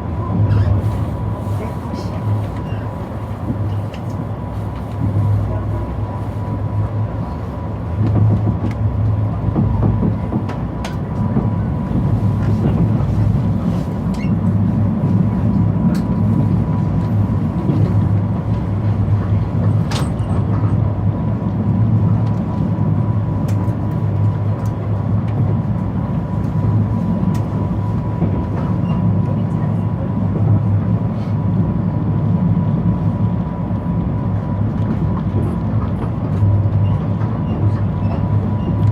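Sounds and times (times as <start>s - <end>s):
passenger train rumbling past: 0.0s - 38.9s.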